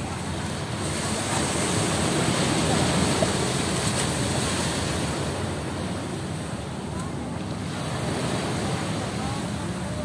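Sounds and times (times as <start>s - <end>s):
ocean surf washing: 0.0s - 10.0s.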